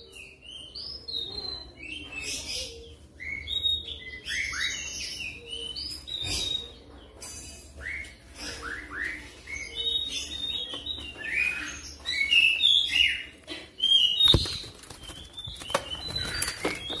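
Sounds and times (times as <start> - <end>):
bird singing whistles and chirps: 0.0 - 7.0, 7.6 - 17.0.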